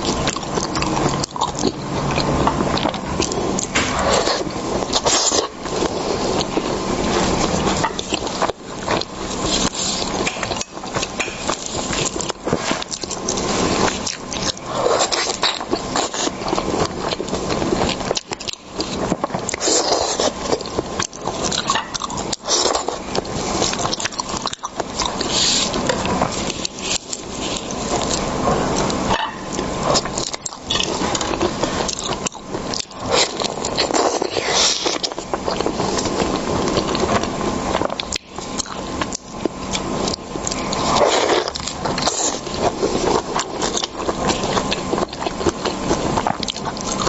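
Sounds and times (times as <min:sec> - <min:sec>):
wet chewing and biting: 0:00.0 - 0:47.0.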